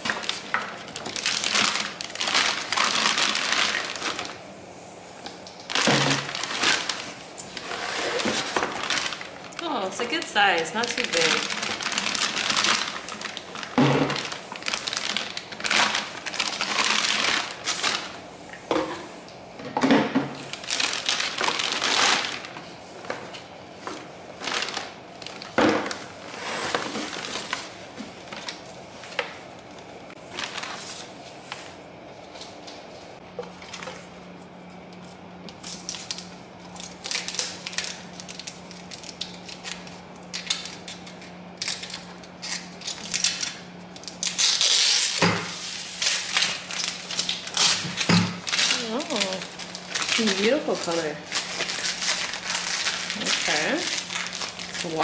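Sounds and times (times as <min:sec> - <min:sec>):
plastic packaging crinkling: 0:00.0 - 0:04.5, 0:05.4 - 0:18.3, 0:20.4 - 0:29.4, 0:30.1 - 0:31.8, 0:35.5 - 0:55.0.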